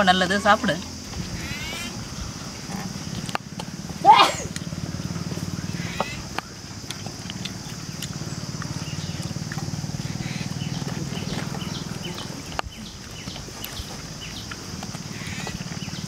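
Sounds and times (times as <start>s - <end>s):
high insect drone: 0.0s - 16.0s
low rapidly pulsing hum: 0.0s - 16.0s.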